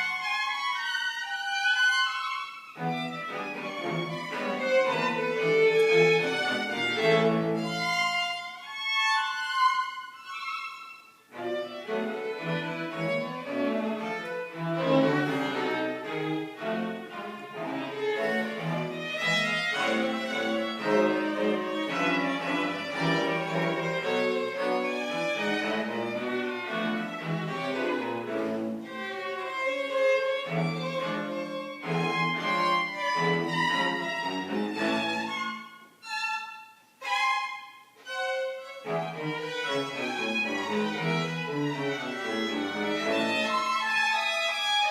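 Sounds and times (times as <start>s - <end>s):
string quartet playing: 0.0s - 44.9s.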